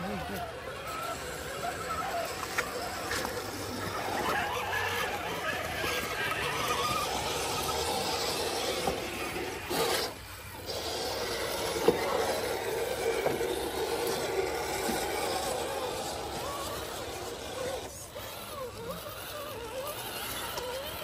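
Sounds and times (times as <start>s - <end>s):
rc car motor whining: 0.0s - 21.0s
tyres scraping on ground: 0.0s - 21.0s.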